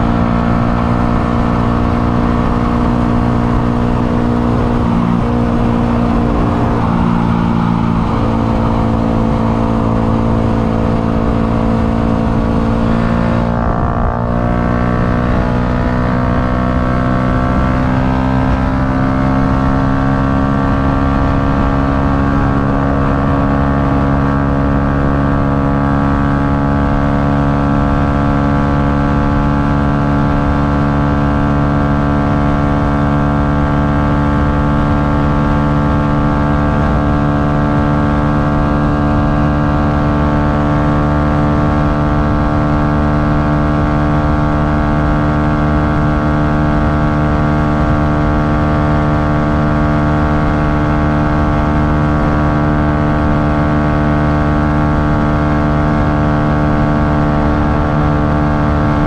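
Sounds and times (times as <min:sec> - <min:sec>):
motorcycle engine at full throttle: 0:00.0 - 0:59.0
wind rushing over microphone: 0:00.0 - 0:59.0.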